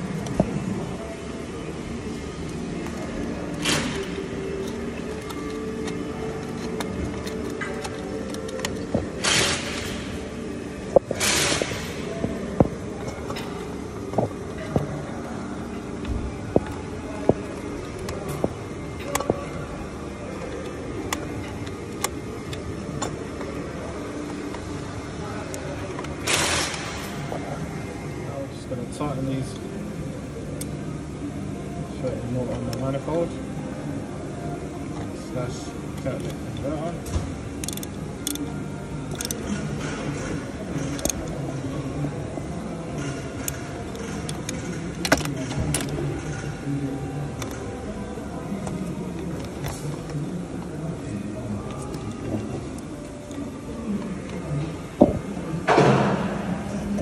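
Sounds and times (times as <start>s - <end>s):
steady background noise: 0.0s - 57.0s
steady low hum: 0.0s - 57.0s.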